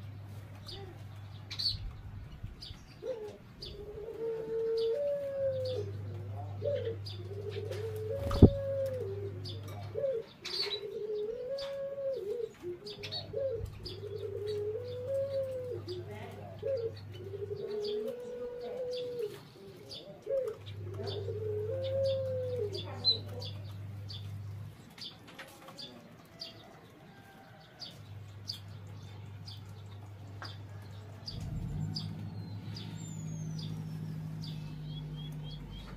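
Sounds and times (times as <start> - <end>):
doves cooing: 0.0 - 35.9
small birds chirping: 0.0 - 35.9.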